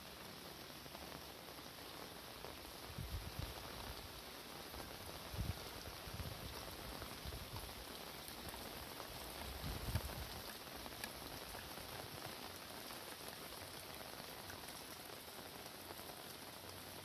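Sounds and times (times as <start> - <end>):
steady rain patter: 0.0 - 17.0.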